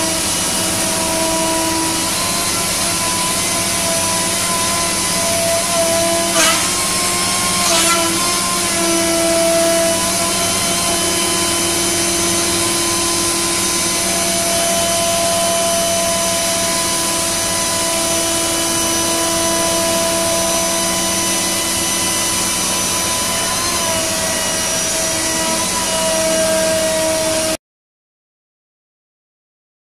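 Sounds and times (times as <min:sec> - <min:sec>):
router spindle whine: 0:00.0 - 0:27.6.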